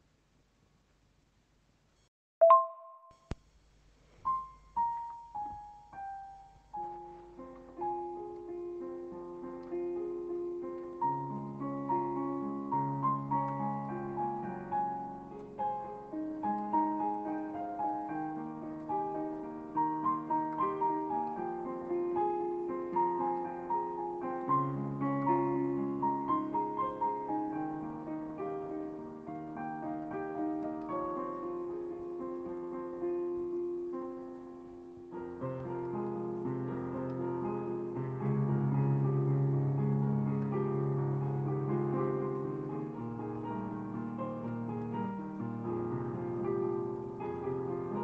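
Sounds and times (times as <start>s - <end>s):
solo piano music: 4.1s - 48.0s.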